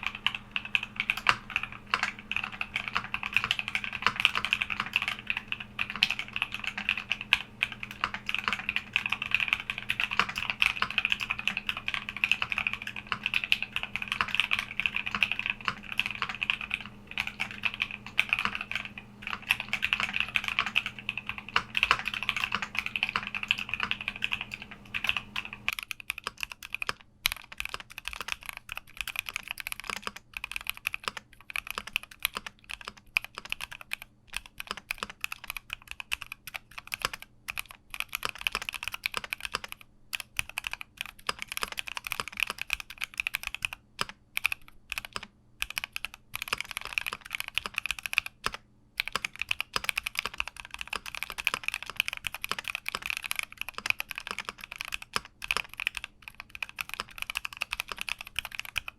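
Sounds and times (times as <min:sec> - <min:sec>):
mechanical keyboard typing: 0:00.0 - 0:58.9.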